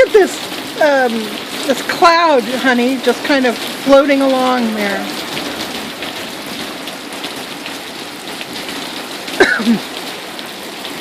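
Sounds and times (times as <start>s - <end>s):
rain splashing on surfaces: 0.0s - 11.0s.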